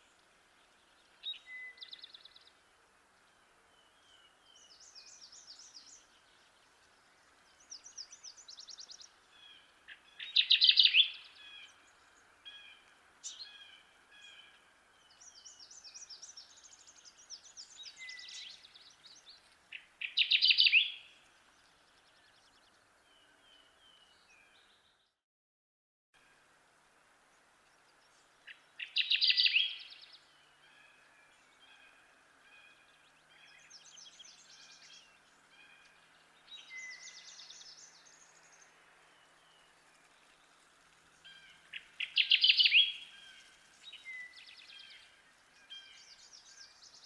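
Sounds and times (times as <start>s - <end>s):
bird song phrases: 0.0s - 25.2s, 27.2s - 47.0s.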